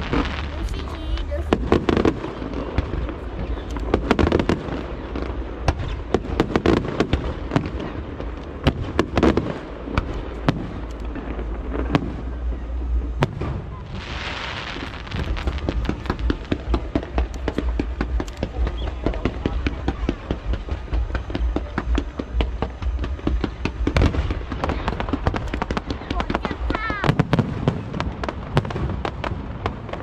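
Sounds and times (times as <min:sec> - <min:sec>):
fireworks bangs and cracks: 0:00.0 - 0:30.0
hissing crackling firework shower: 0:00.0 - 0:30.0.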